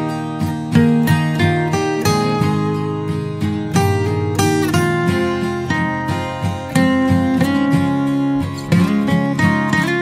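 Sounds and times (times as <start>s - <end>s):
plucked guitar-like music: 0.0s - 10.0s.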